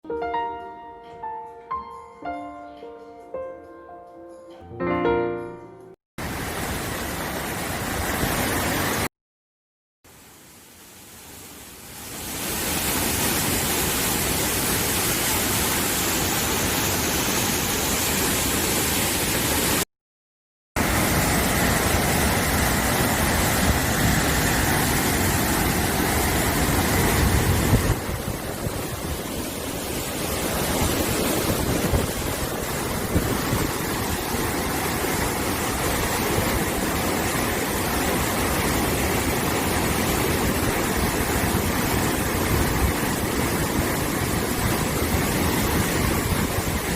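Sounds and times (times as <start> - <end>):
stream rushing over rocks: 6.2 - 9.1, 10.1 - 19.8, 20.8 - 46.9.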